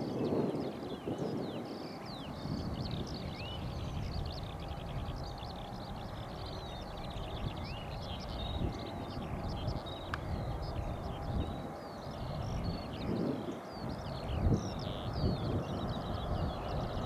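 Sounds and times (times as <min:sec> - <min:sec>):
distant jet engine rumble: 0:00.0 - 0:17.0
songbirds chirping: 0:00.0 - 0:17.0.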